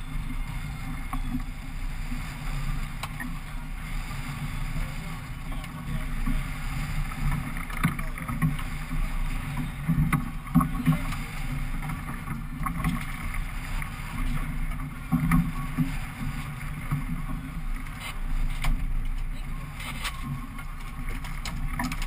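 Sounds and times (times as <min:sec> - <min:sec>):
fishing boat engine rumble: 0:00.0 - 0:22.0.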